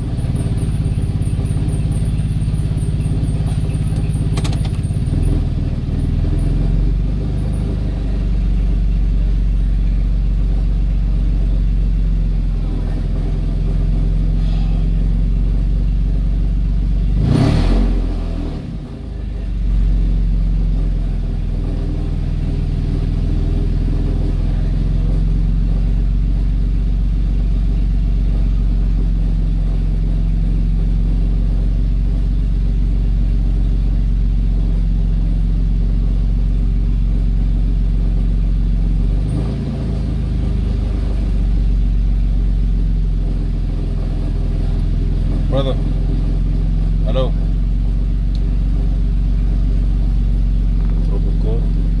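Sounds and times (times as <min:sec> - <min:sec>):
car engine droning: 0:00.0 - 0:52.0.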